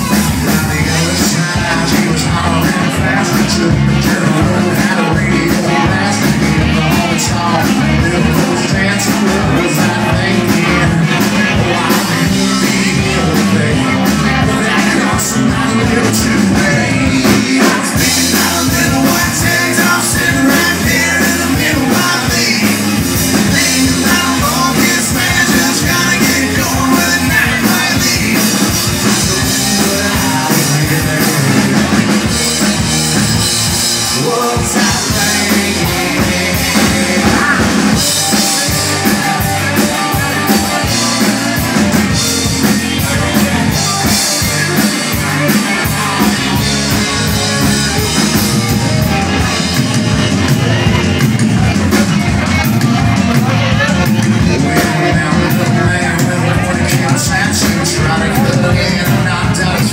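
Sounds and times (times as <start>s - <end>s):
bass guitar: 0.0s - 59.9s
drum kit: 0.0s - 59.9s
electric guitars: 0.0s - 59.9s
singer on a microphone: 0.0s - 59.9s.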